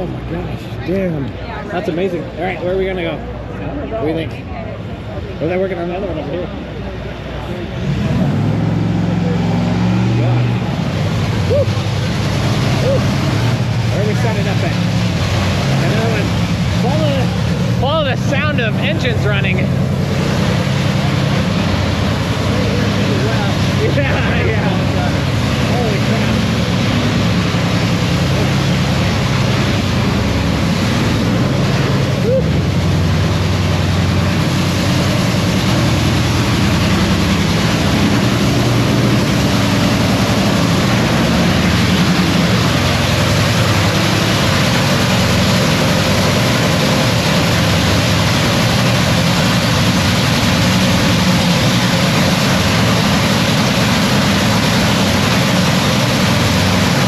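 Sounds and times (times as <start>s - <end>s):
drag-racing engine idling: 0.0s - 57.0s.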